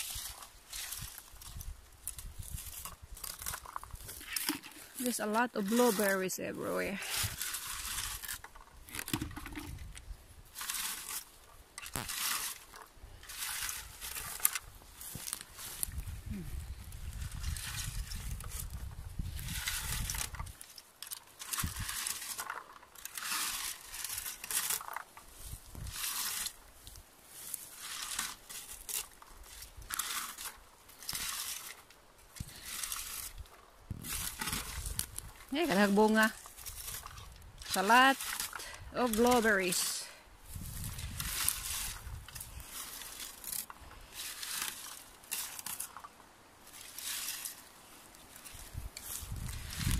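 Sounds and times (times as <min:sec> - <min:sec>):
berry rake sweeping through bushes: 0:00.0 - 0:09.2, 0:09.8 - 0:49.9.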